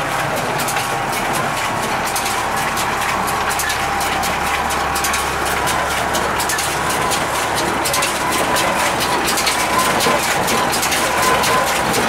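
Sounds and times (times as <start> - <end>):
baler mechanical clatter: 0.0 - 12.0
tractor engine running: 0.0 - 12.0.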